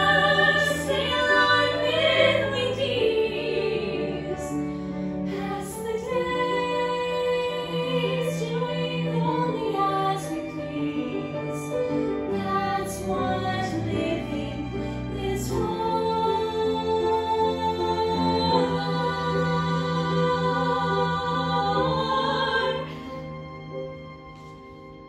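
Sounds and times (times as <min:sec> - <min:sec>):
women singing duet: 0:00.0 - 0:04.7, 0:05.3 - 0:11.7, 0:12.4 - 0:23.0.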